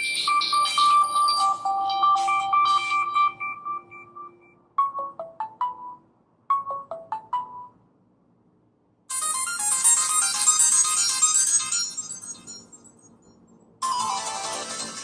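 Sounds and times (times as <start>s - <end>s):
phone ringtone melodies: 0.0s - 7.8s, 9.1s - 12.8s, 13.8s - 15.0s.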